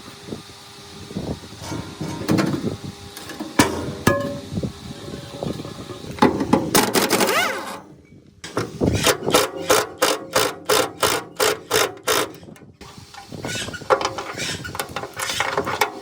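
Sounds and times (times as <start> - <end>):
tools clanking on metal parts: 1.6 - 16.0.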